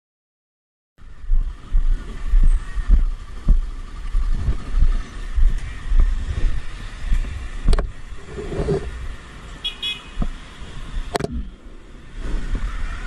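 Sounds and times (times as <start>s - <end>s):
road vehicle rumble: 1.0s - 13.0s.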